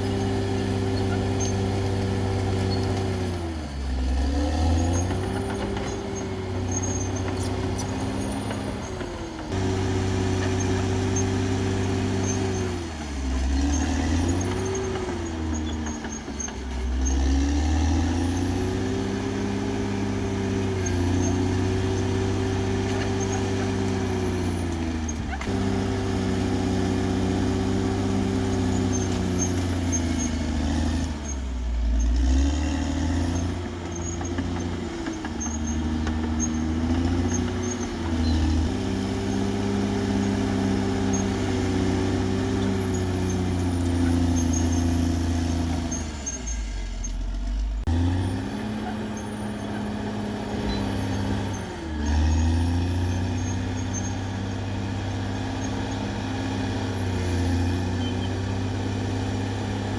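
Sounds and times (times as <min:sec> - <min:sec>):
bulldozer diesel engine running hard: 0:00.0 - 0:59.9.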